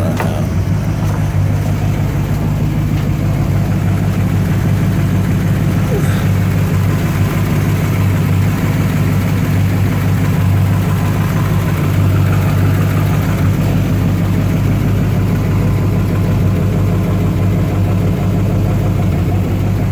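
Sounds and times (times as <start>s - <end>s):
pickup engine idling: 0.0s - 19.9s.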